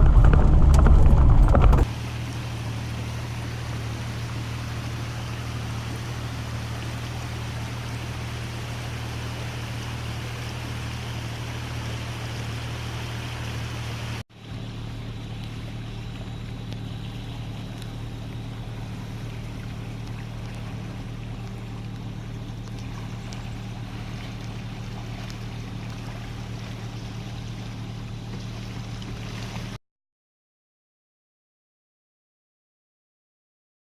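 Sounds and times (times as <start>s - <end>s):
car engine drone: 0.0s - 29.8s
tyre and road noise: 0.0s - 29.8s.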